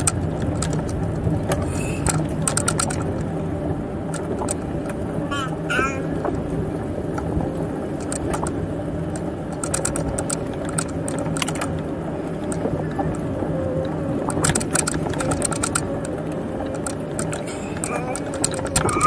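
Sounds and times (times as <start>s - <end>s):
light rattling and clicking: 0.0s - 3.3s, 4.0s - 5.0s, 6.2s - 19.0s
bicycle tyres and drivetrain rolling: 0.0s - 19.0s.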